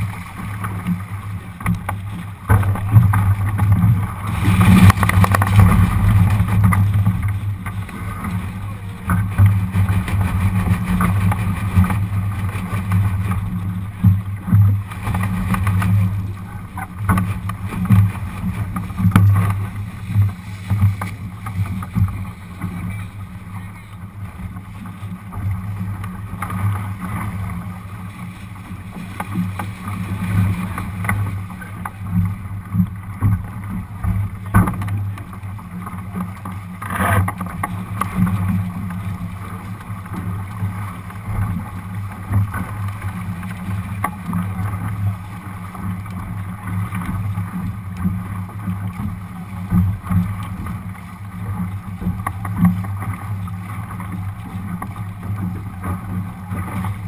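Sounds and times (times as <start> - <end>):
water rushing along hull: 0.0 - 57.0
wind noise on microphone: 0.0 - 57.0.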